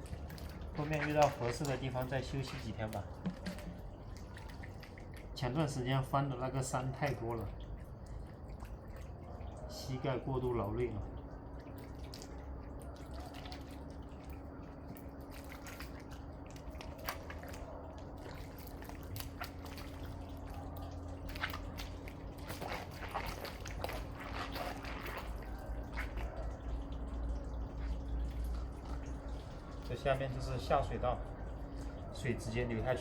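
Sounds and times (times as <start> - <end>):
steady low hum: 0.0 - 33.0
water dripping into a drain: 0.0 - 33.0.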